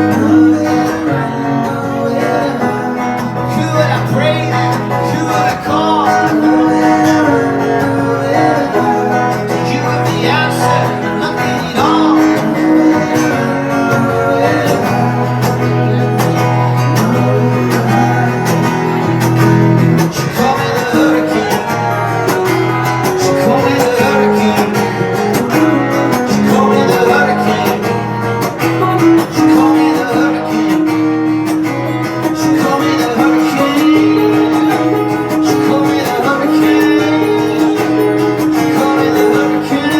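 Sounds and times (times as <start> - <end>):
acoustic guitar strumming: 0.0 - 39.9
man singing: 0.0 - 39.9.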